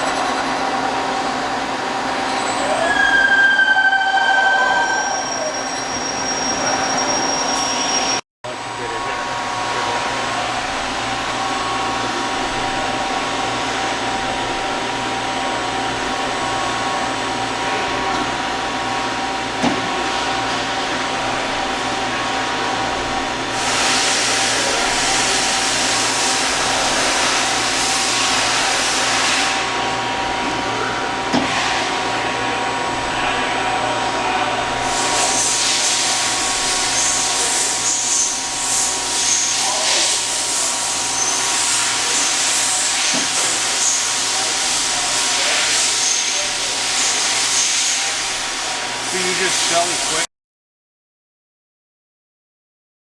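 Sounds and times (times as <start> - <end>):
machine whine and hum: 0.0 - 50.3.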